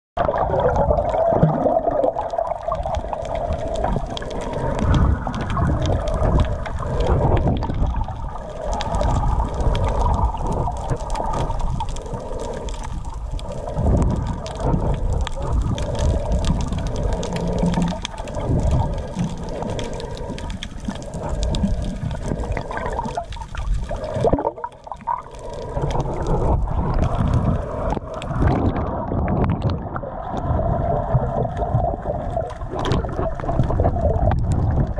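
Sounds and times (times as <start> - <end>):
water sloshing and gurgling underwater: 0.2 - 34.9.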